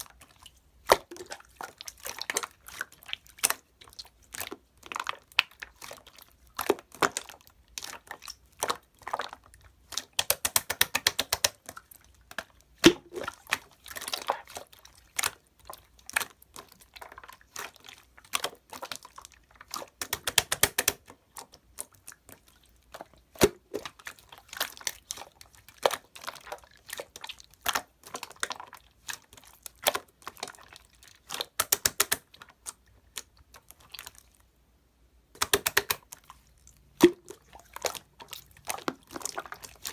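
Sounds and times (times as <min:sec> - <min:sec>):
slime squishing with wet pops: 0:00.0 - 0:34.6, 0:35.3 - 0:39.9.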